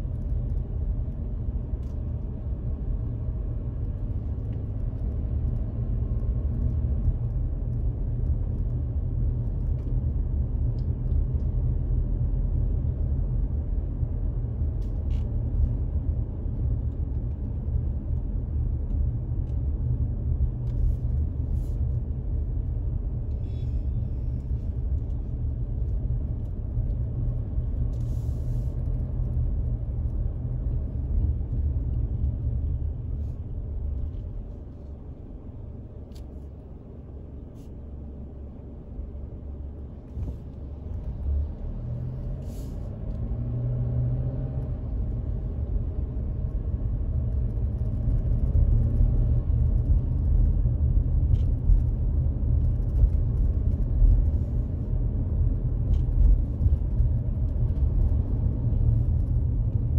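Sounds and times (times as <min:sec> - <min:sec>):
car driving on road: 0:00.0 - 0:59.9.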